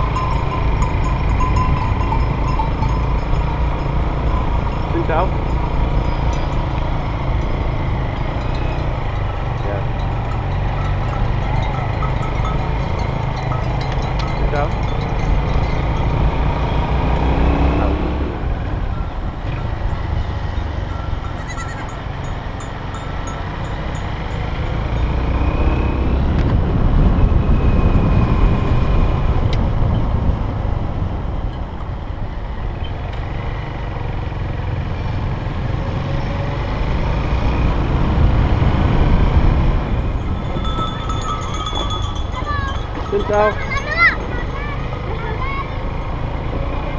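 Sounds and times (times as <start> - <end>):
wind rumble on microphone: 0.0 - 33.3, 34.6 - 46.9
motorcycle engine running: 0.0 - 46.9.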